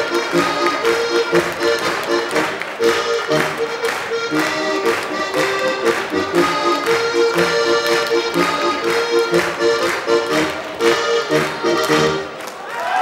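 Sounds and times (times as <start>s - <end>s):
accordion playing folk dance: 0.0s - 12.4s.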